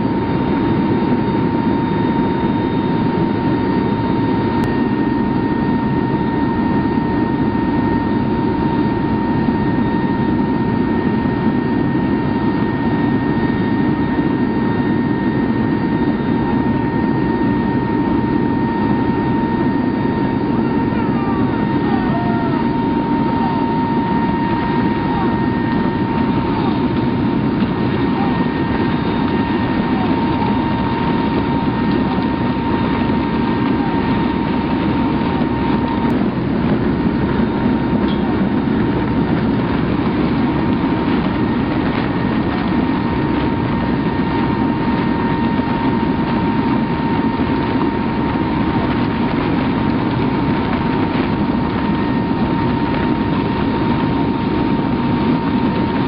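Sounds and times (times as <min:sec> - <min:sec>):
aircraft engine drone: 0:00.0 - 0:56.0
rushing wind: 0:00.0 - 0:56.0.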